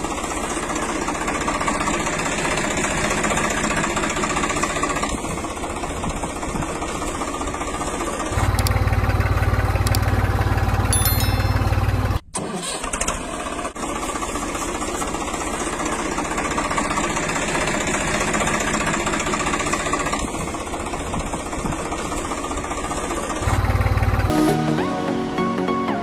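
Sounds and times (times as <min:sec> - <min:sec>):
engine running: 0:00.0 - 0:25.2.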